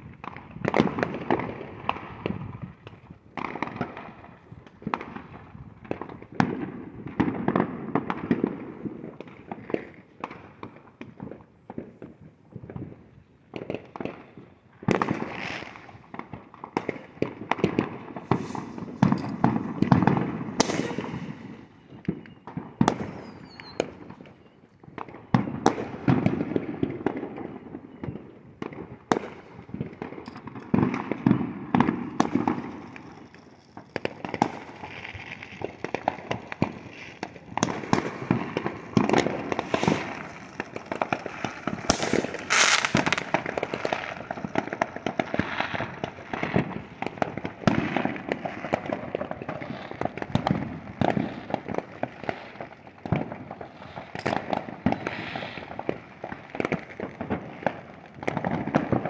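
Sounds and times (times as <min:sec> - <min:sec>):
distant fireworks bangs and crackles: 0:00.0 - 0:59.0.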